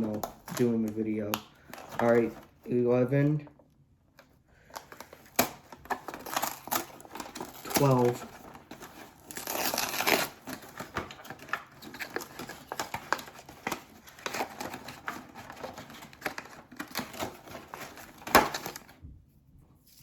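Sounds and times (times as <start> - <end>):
packaging crinkling and rustling: 0.0 - 3.4, 4.2 - 19.0.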